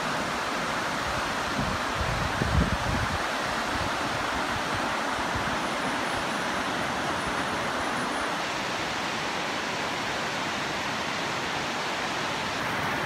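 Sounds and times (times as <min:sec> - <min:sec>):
river rushing over a dam: 0:00.0 - 0:13.0.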